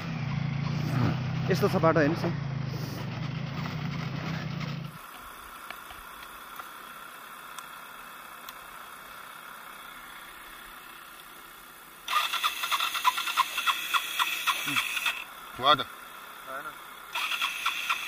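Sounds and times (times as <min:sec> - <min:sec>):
faint steady engine hum: 0:00.0 - 0:18.0
motorcycle engine idling: 0:00.0 - 0:18.0.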